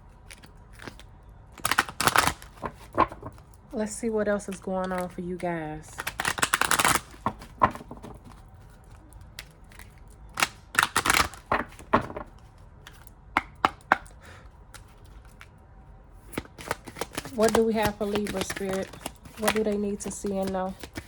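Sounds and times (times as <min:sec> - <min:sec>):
cards riffling: 0:00.1 - 0:03.8, 0:04.4 - 0:05.3, 0:05.9 - 0:21.0
cards snapping and tapping: 0:00.3 - 0:03.4, 0:04.5 - 0:05.2, 0:06.0 - 0:15.5, 0:16.2 - 0:21.0.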